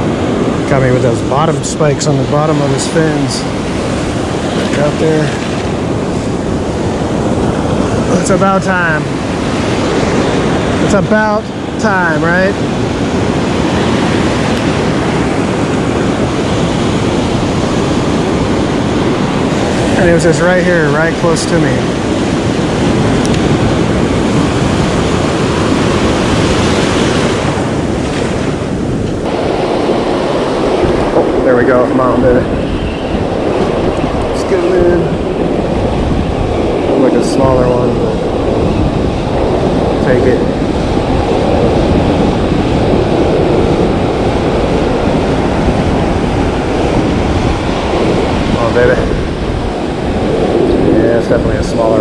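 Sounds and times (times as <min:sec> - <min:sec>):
ocean surf breaking: 0:00.0 - 0:52.0
wind rumbling on microphone: 0:00.0 - 0:52.0.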